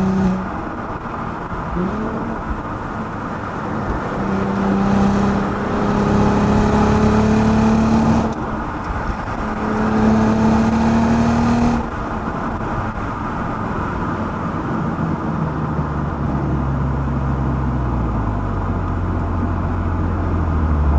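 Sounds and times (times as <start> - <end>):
car exhaust under acceleration: 0.0 - 20.9.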